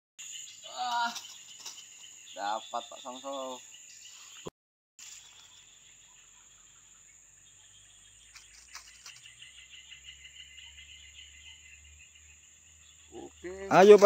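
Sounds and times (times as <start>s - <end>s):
high insect drone: 0.2s - 4.4s, 5.0s - 14.0s
faint rapid pulsing chirp: 0.2s - 14.0s.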